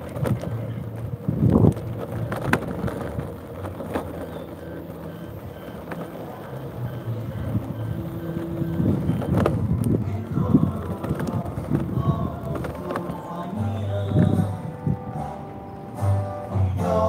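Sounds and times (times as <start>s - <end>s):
electric wheel motors humming: 0.0s - 17.0s.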